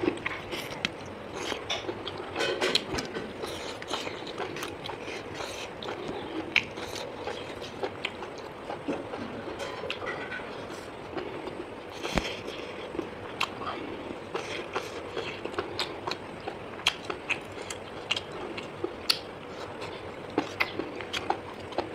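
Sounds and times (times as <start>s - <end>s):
person chewing food: 0.0s - 10.0s, 10.6s - 21.9s.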